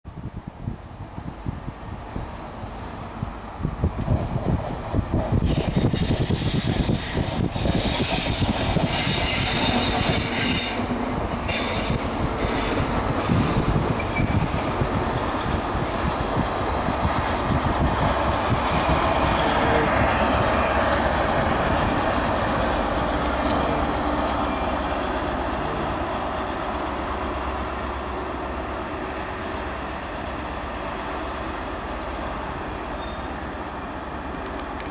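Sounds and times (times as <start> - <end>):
diesel train rumble: 0.1 - 34.9
wheel and rail hiss: 3.8 - 34.9.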